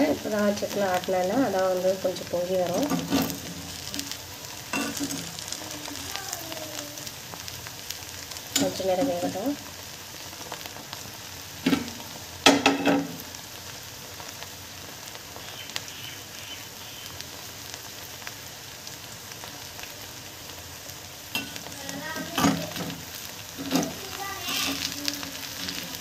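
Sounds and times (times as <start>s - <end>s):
oil sizzling: 0.0s - 26.0s.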